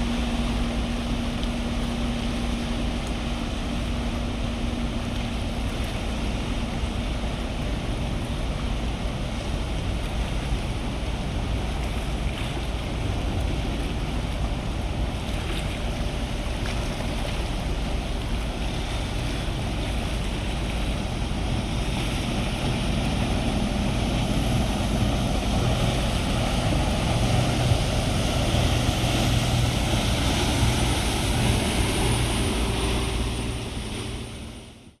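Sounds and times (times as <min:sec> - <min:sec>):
ship engine drone: 0:00.0 - 0:35.0
wind and water noise: 0:00.0 - 0:35.0.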